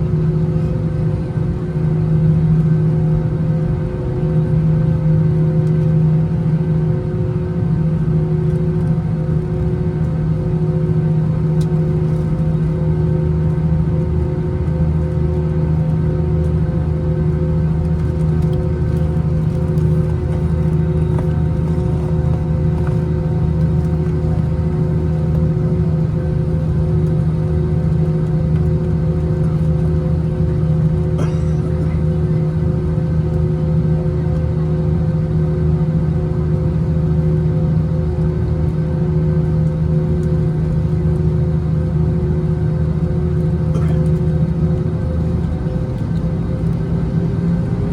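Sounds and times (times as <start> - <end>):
airplane cabin engine rumble: 0.0 - 47.9.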